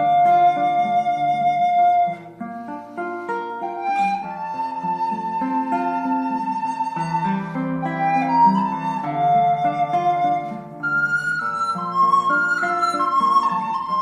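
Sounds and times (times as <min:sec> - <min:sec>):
flute melody with accompaniment: 0:00.0 - 0:14.0.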